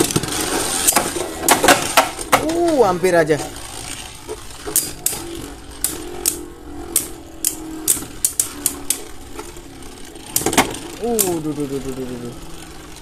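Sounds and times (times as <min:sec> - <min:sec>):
spinning tops clacking: 0:00.0 - 0:13.0
spinning tops whirring: 0:00.0 - 0:13.0.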